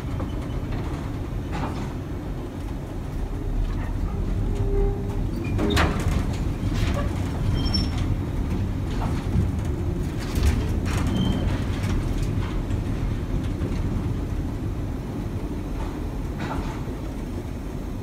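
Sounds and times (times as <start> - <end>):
streetcar rumbling: 0.0 - 18.0.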